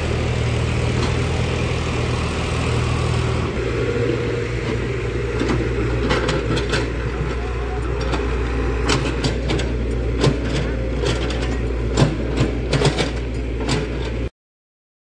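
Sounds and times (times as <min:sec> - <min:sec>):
excavator diesel engine running: 0:00.0 - 0:14.3.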